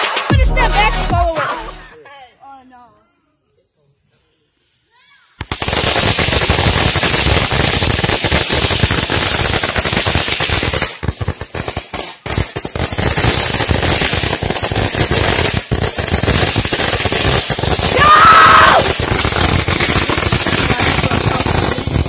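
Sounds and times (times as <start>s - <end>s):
firecrackers banging: 0.0s - 1.9s, 5.3s - 22.0s.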